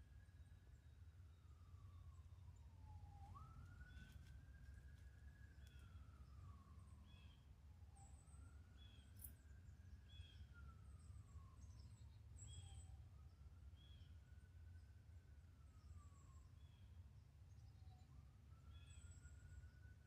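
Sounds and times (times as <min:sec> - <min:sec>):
distant siren wailing: 0:00.0 - 0:20.0.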